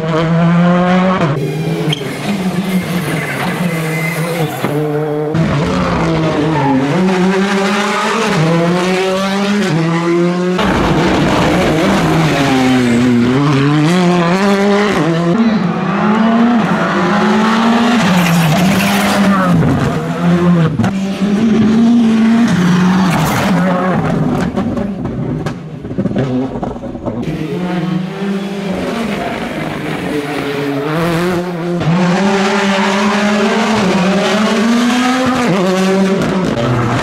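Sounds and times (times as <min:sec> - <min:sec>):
rally car engines revving hard: 0:00.0 - 0:37.0.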